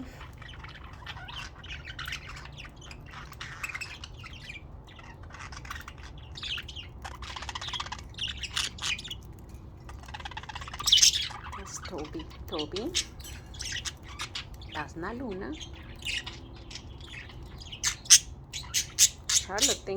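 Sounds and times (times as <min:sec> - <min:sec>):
budgerigars chirping and chattering: 0:00.0 - 0:19.9.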